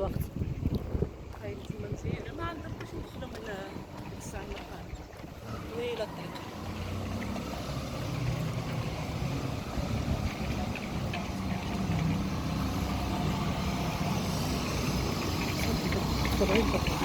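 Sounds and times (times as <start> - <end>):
vehicle engine running: 1.6 - 17.0.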